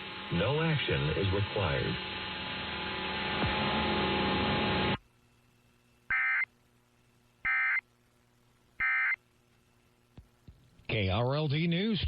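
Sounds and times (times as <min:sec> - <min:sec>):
radio hiss and hum: 0:00.0 - 0:03.8, 0:04.8 - 0:12.0.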